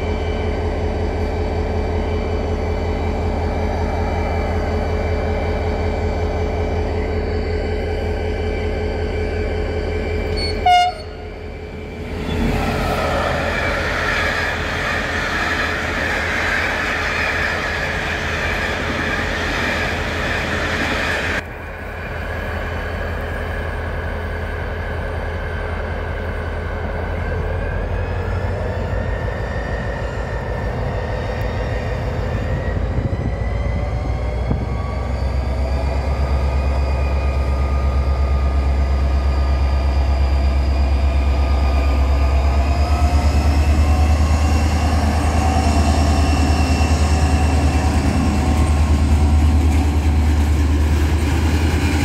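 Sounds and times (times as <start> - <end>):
diesel locomotive engine throbbing: 0.0 - 52.0
train passing: 0.0 - 52.0.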